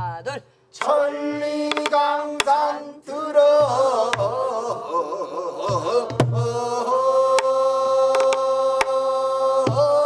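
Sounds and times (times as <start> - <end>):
person singing ornamented phrases: 0.0 - 10.0.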